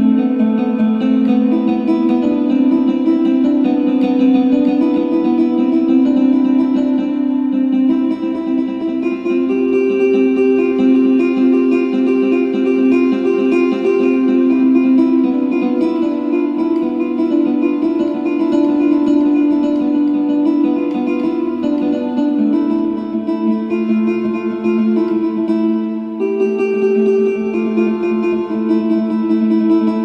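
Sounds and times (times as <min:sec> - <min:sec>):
instrumental background music: 0:00.0 - 0:30.0.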